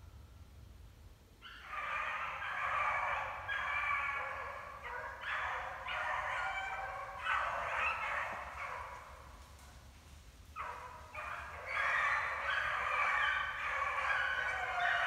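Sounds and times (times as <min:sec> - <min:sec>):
dogs baying: 0:01.5 - 0:09.4, 0:10.6 - 0:15.0.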